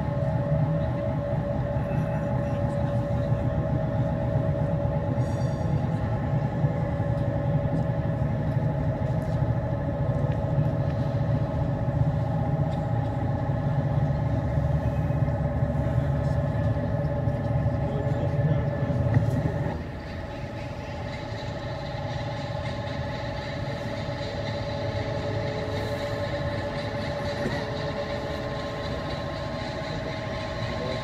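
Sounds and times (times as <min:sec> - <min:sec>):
low electronic drone: 0:00.0 - 0:31.0.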